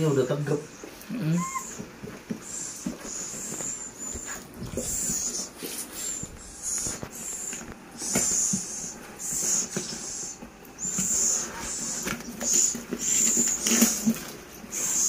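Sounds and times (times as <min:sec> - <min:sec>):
owls hissing: 0:00.2 - 0:15.0.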